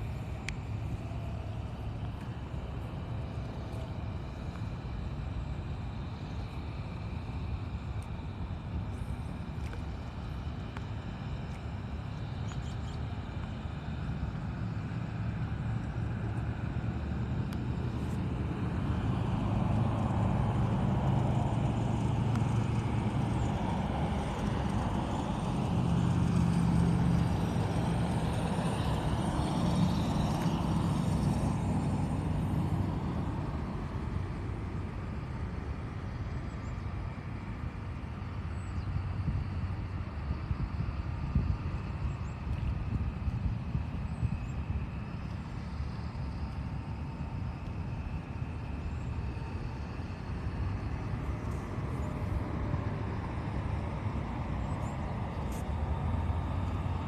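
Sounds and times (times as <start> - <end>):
low vehicle engine rumble: 0.0 - 57.0.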